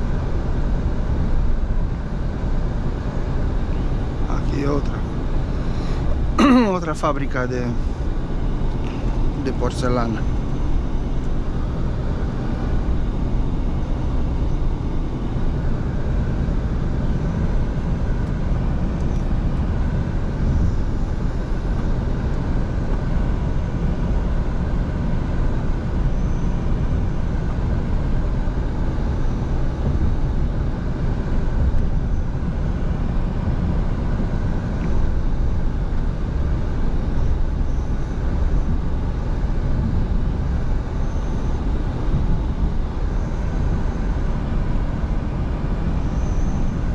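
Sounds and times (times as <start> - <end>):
road rumble: 0.0 - 46.9
truck engine drone: 0.0 - 46.9.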